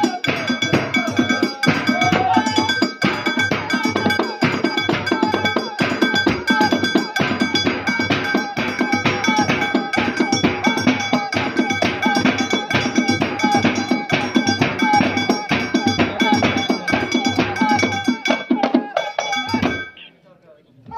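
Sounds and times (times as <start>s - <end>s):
metal percussion clanking: 0.0s - 20.0s
deep regular drum beat: 0.0s - 20.1s.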